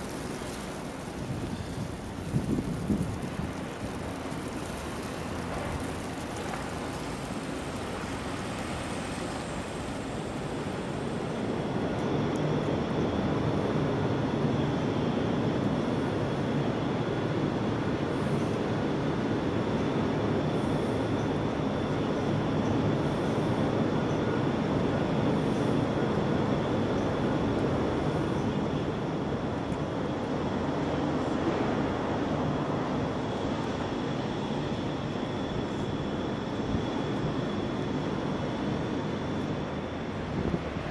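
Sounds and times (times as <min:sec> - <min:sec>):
low rumble of city traffic: 0:00.0 - 0:40.9.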